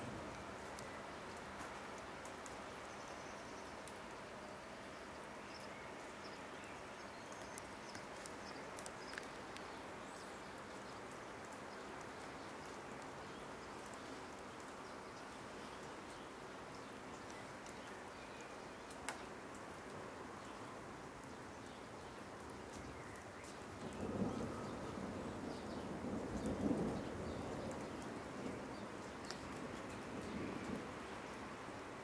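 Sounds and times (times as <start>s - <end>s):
faint steady hiss: 0.0s - 32.0s.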